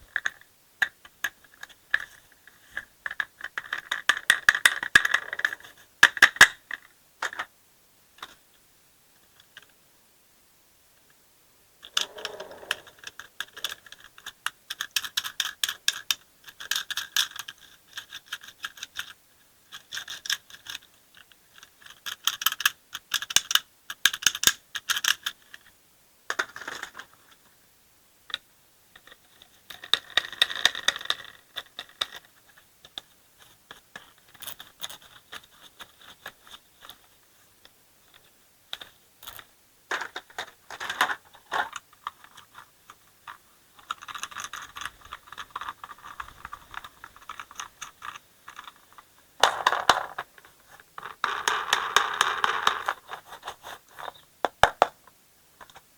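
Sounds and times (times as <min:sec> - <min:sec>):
pieces rattling in plastic toy truck: 0:00.0 - 0:07.5, 0:11.8 - 0:25.7, 0:26.3 - 0:27.4, 0:29.0 - 0:37.1, 0:38.7 - 0:55.0.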